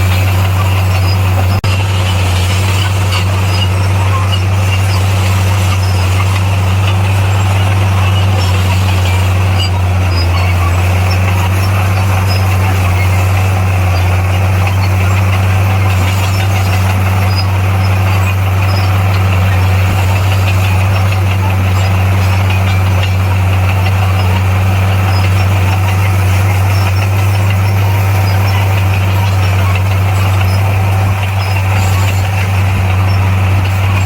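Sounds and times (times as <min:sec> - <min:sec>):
bulldozer diesel engine droning: 0:00.0 - 0:34.0.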